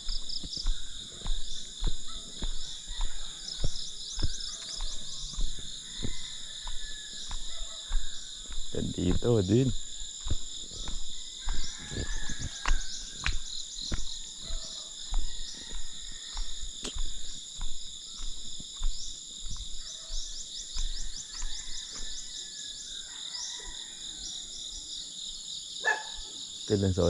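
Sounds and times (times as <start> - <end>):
insects calling: 0.0 - 27.0.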